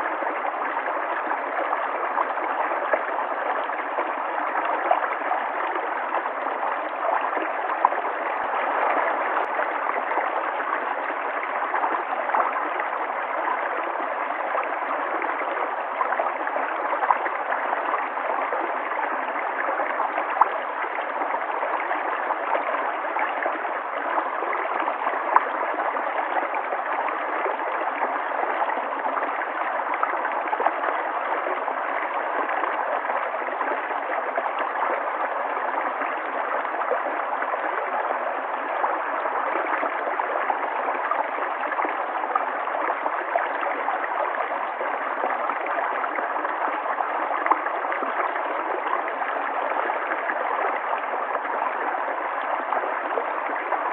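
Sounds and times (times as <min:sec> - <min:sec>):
river water flowing and gurgling: 0:00.0 - 0:53.9.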